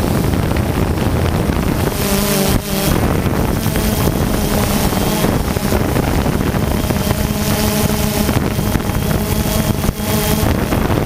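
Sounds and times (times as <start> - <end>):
drone propellers buzzing: 0.0 - 11.0
wind buffeting microphone: 0.0 - 11.0.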